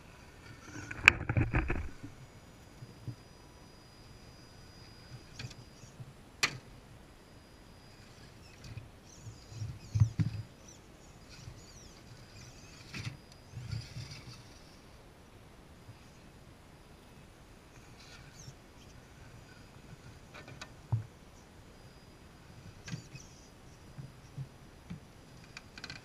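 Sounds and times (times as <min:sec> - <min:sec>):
electric drivetrain whine: 0:00.0 - 0:26.0.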